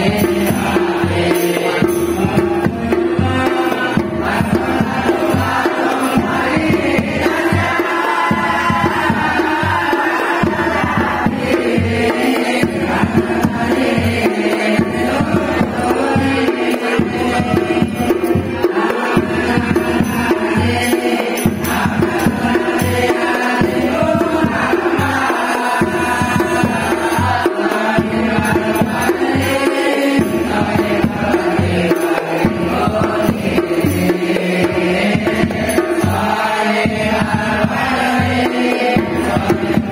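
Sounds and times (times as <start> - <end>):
group chanted singing: 0.0 - 39.9
hand-beaten frame drum: 0.0 - 39.9.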